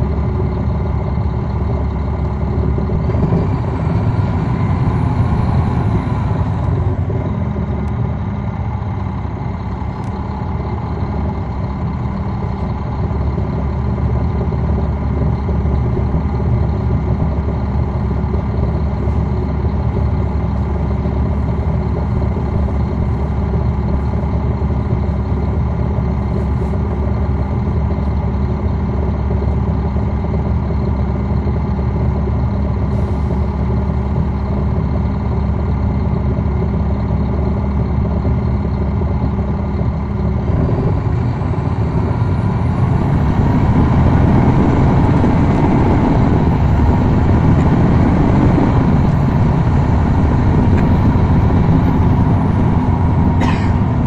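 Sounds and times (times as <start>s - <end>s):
bus diesel engine idling: 0.0s - 54.0s
engine rising whine: 0.0s - 54.0s.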